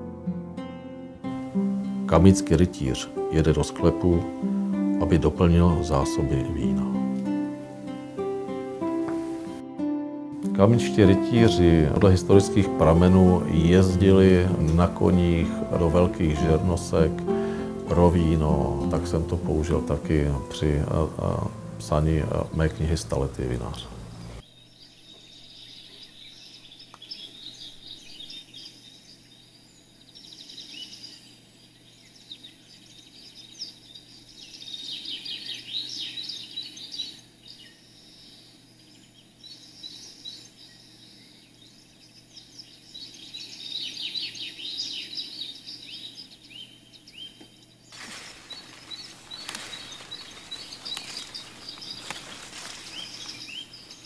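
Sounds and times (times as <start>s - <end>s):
background hiss: 0.0s - 54.0s
small birds chirping: 10.4s - 54.0s.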